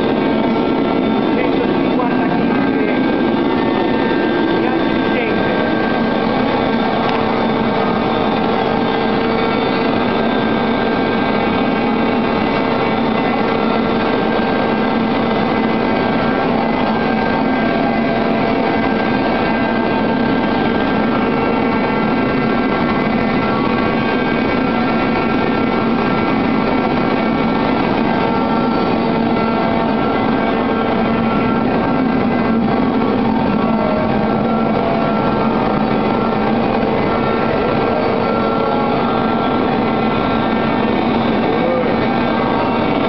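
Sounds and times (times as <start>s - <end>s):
glass washing machine running: 0.0s - 43.0s.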